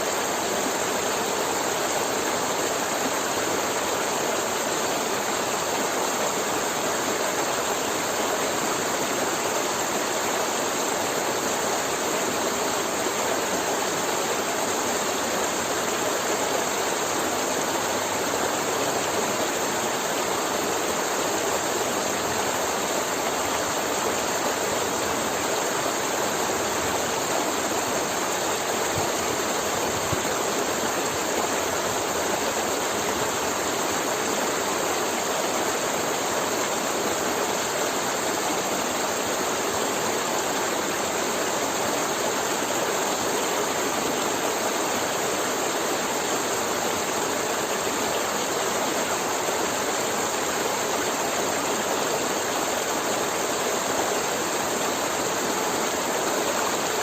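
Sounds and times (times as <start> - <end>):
river water rushing and gurgling: 0.0 - 57.0.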